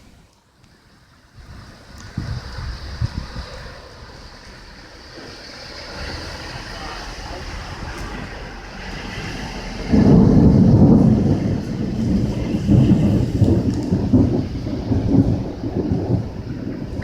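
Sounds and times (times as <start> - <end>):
steady rain: 0.0 - 17.0
thunder crack and rumble: 1.4 - 17.0.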